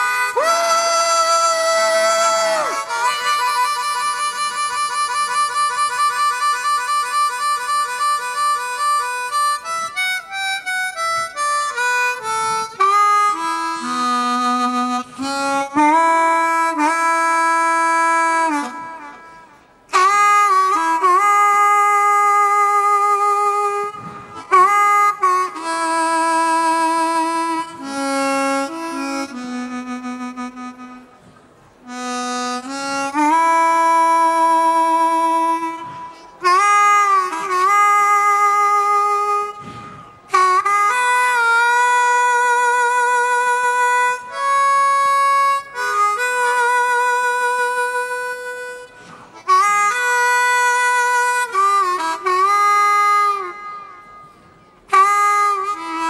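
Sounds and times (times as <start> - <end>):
blues harmonica bent notes: 0.0 - 56.0.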